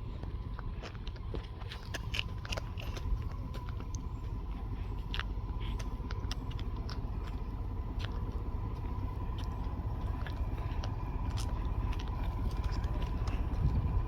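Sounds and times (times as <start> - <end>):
vehicle rumbling: 0.0 - 14.0.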